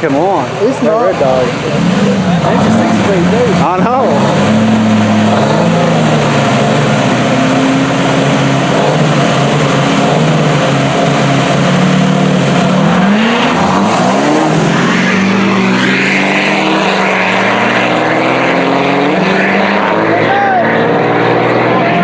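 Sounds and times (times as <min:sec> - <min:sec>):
diesel trucks at full throttle: 0:00.0 - 0:22.0.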